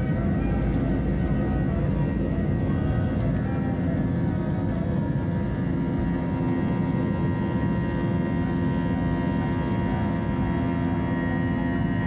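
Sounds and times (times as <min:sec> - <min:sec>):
jet engines roaring in cabin: 0:00.0 - 0:12.0.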